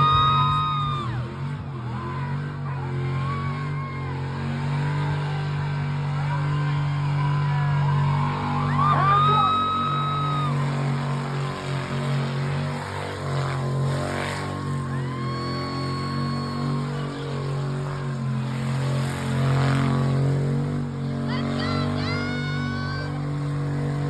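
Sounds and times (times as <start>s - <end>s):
engine revving in a burnout: 0.0s - 24.0s.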